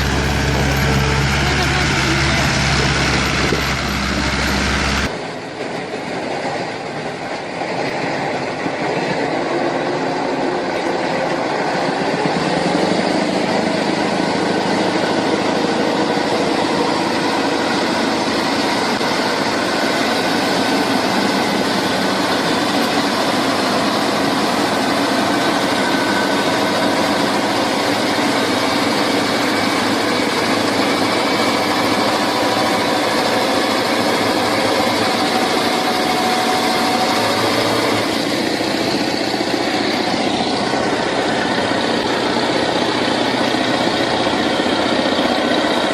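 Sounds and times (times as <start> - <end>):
vehicle engine droning: 0.0 - 45.9.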